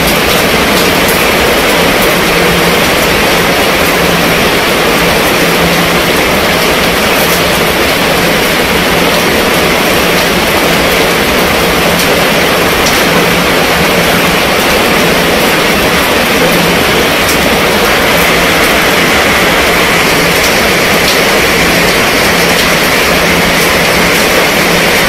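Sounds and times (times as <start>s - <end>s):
heavy rain on tent canopy: 0.0s - 25.0s
rain splashing on pavement: 0.0s - 25.0s.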